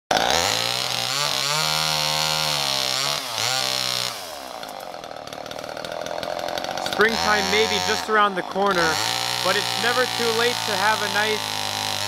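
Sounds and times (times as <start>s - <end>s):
chainsaw cutting dry wood: 0.1s - 12.0s
chainsaw idling: 0.1s - 12.0s.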